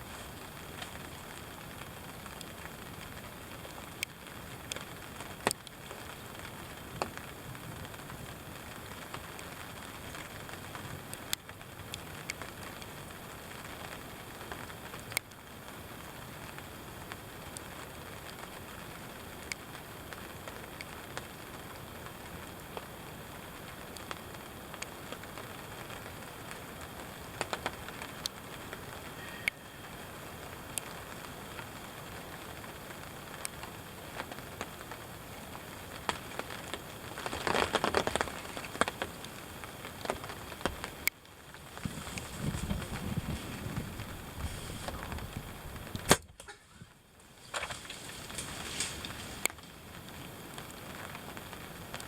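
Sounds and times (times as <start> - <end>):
loud raindrops striking close: 0.0 - 52.0
steady rain hiss: 0.0 - 52.0.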